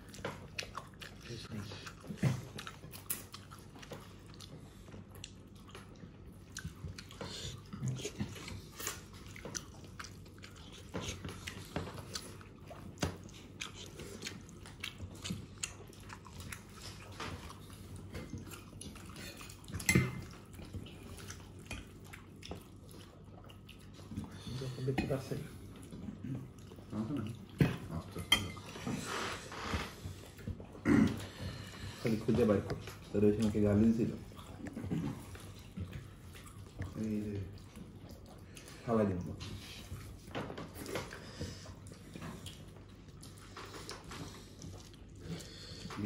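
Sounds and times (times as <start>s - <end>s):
chewing food: 0.0s - 46.0s.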